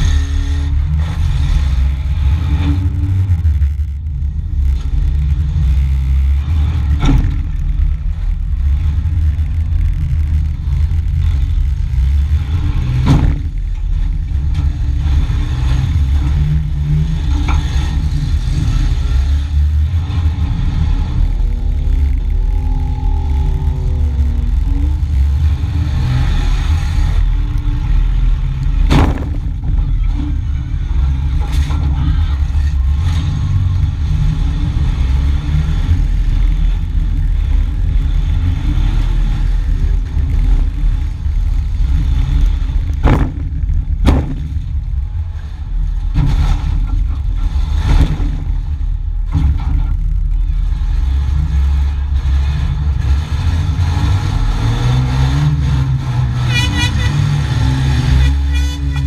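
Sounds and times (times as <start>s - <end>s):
engine running and revving: 0.0s - 59.0s.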